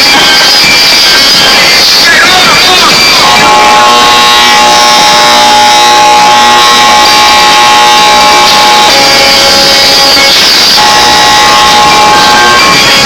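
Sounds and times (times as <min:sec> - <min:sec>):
distorted car sound system: 0:00.0 - 0:13.0.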